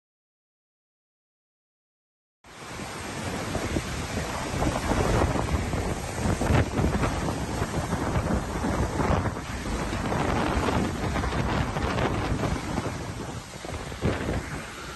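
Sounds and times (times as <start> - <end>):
strong wind buffeting microphone: 2.5 - 14.9.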